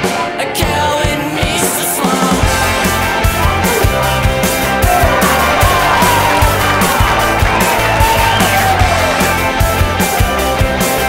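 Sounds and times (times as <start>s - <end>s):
rock music with drums and bass: 0.0s - 11.0s.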